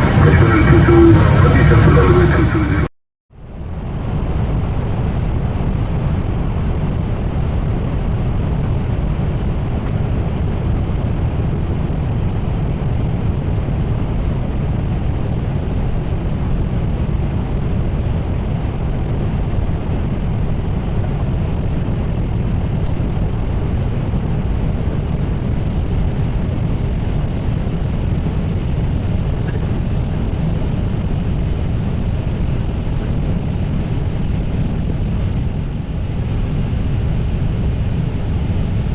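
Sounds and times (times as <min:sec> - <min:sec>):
airflow and engine noise in cockpit: 0:00.0 - 0:38.9.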